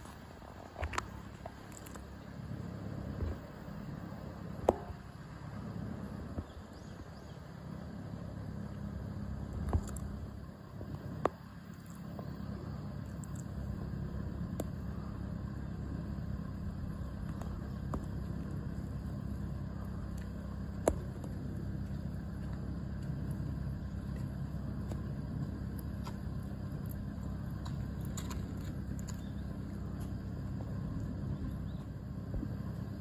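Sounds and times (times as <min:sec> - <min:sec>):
low outdoor rumble: 0:00.0 - 0:33.0.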